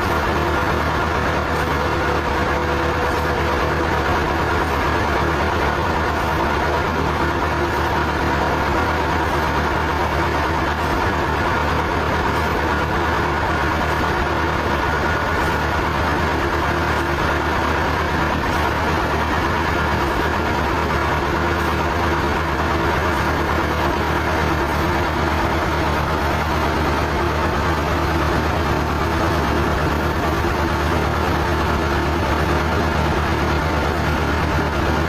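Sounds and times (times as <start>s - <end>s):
sawmill machinery droning: 0.0s - 35.0s.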